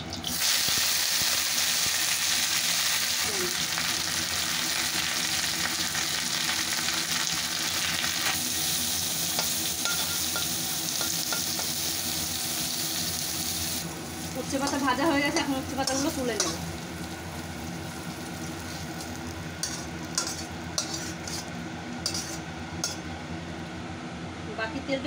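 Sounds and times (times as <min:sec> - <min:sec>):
leaves sizzling in hot oil: 0:00.0 - 0:23.6
spatula turning food in pan: 0:00.2 - 0:23.4.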